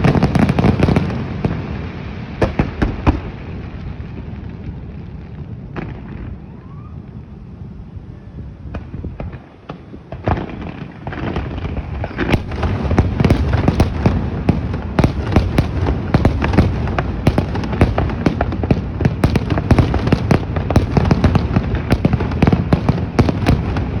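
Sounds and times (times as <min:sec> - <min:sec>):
fireworks bangs and crackles: 0:00.0 - 0:07.4, 0:08.6 - 0:24.0.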